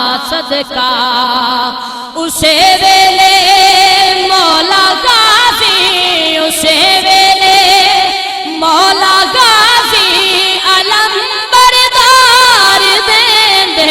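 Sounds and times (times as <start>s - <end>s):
person singing devotional song: 0.0s - 13.9s.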